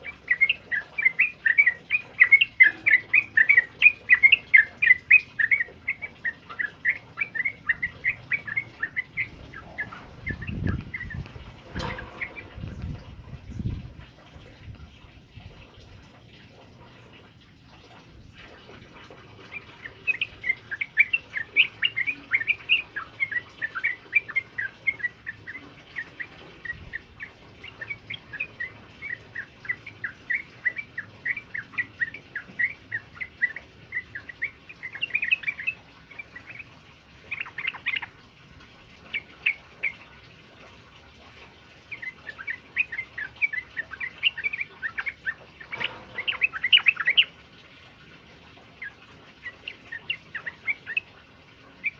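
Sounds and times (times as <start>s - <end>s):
bulbul chattering song: 0.0s - 51.9s.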